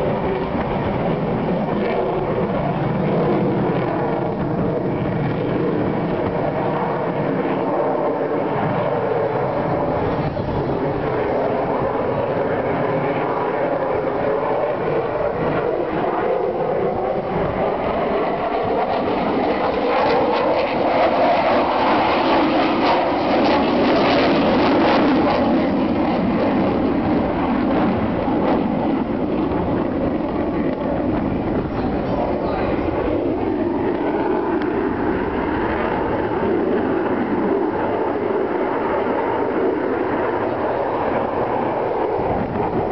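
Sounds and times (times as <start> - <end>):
aircraft engine roar overhead: 0.0 - 42.9
fighter jet flying past: 0.0 - 42.9
wind buffeting microphone: 0.0 - 42.9.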